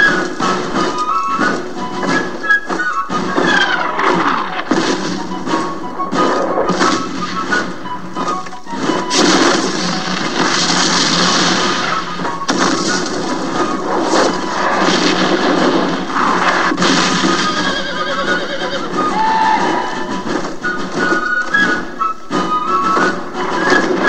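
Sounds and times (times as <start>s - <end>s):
cannons firing: 0.0s - 24.0s
horses neighing: 0.0s - 24.0s
orchestral music: 0.0s - 24.0s
shells bursting: 0.0s - 24.0s.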